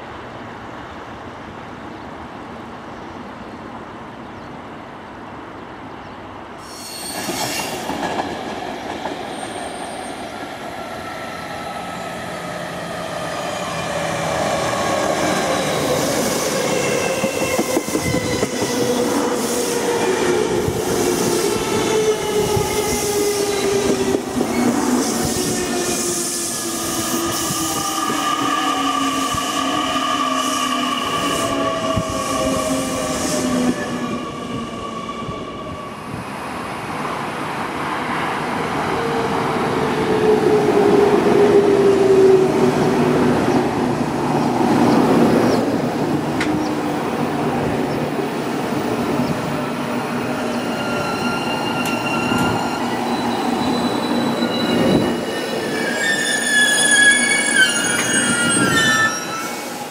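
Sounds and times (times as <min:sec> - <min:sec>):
train wheels rumbling on rail: 0:06.6 - 0:59.9.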